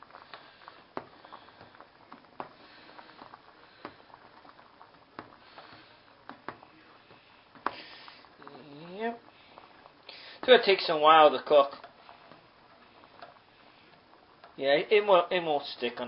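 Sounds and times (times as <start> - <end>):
water boiling in a pot: 0.0 - 16.0.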